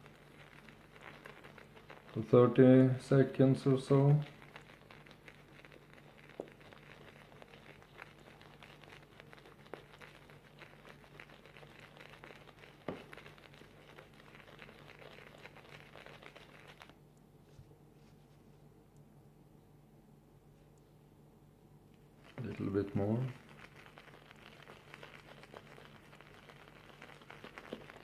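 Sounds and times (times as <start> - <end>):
brush swirling on shaving soap: 0.0 - 17.0, 22.0 - 28.0.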